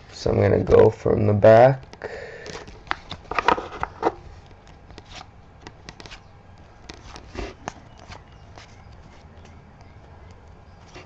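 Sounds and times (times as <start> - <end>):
trading cards flicking and rustling: 1.8 - 11.0.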